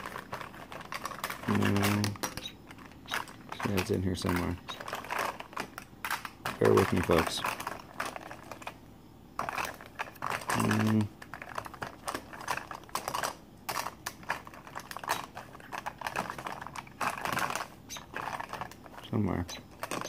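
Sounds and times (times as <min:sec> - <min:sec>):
makeup items clattering: 0:00.0 - 0:08.8, 0:09.4 - 0:20.0.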